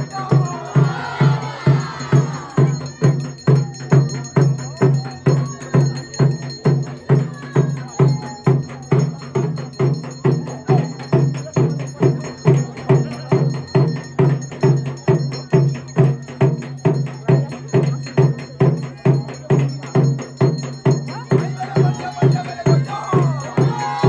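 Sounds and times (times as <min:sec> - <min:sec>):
fast steady drumming: 0:00.0 - 0:24.0.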